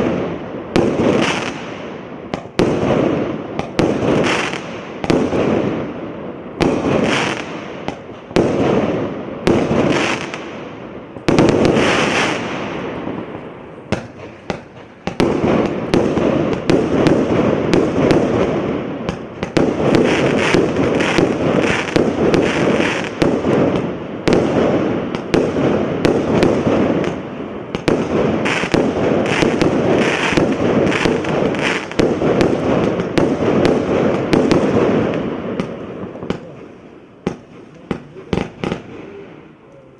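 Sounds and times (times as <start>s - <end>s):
firework barrage with crackle: 0.0s - 39.9s.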